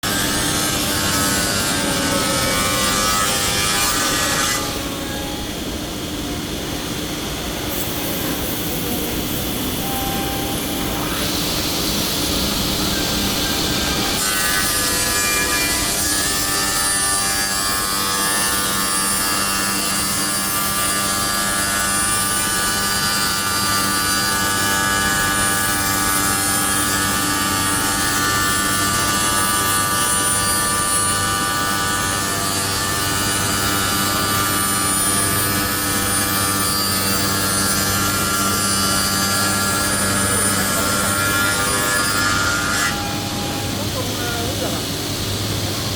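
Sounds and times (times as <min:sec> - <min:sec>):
saw blade cutting: 0:00.0 - 0:05.5, 0:07.8 - 0:44.6.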